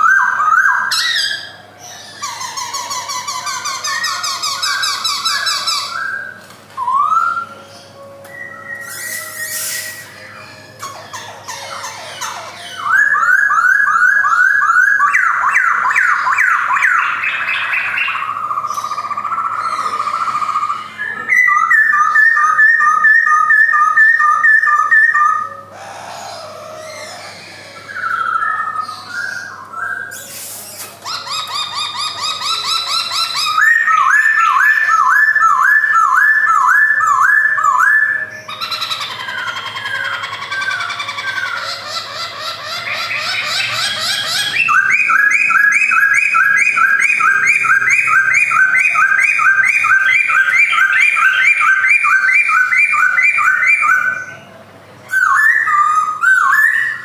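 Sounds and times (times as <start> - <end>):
bird singing whistled phrases: 0.0 - 25.6, 27.0 - 54.4, 55.1 - 57.0.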